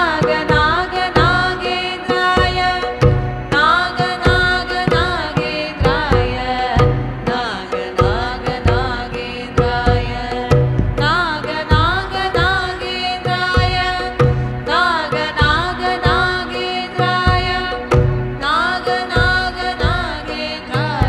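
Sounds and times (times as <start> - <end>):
hand-drum strokes: 0.0 - 21.0
steady drone: 0.0 - 21.0.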